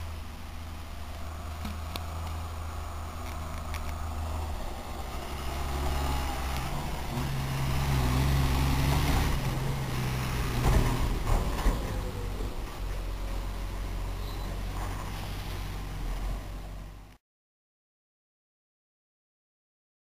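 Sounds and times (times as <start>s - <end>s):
tractor engine passing: 0.0s - 17.1s.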